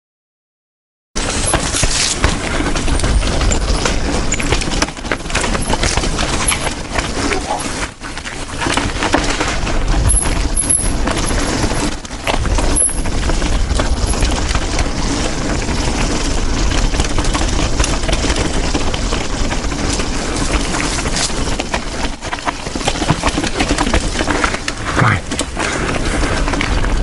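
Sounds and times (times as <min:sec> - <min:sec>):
mountain bike clattering over rocks: 0:01.2 - 0:27.0.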